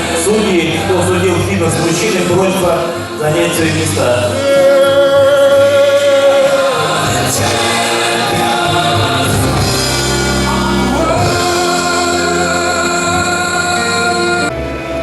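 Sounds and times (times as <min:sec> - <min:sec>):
voices singing long notes: 0:00.0 - 0:14.8.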